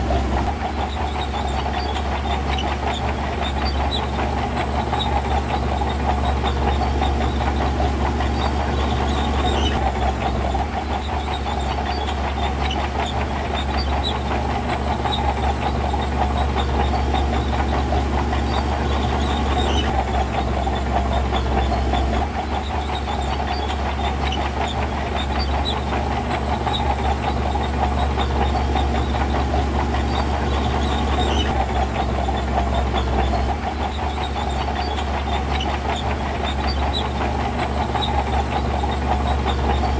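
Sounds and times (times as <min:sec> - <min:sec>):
diesel machinery engine hum: 0:00.0 - 0:39.9
machinery clatter: 0:00.0 - 0:39.9.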